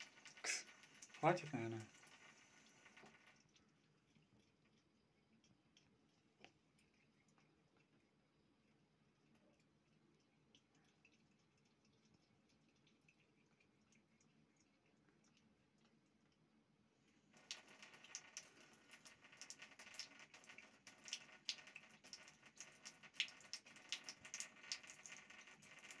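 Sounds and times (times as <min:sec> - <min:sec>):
cat lapping water: 0:00.0 - 0:26.0
water trickling from a tap: 0:00.0 - 0:26.0.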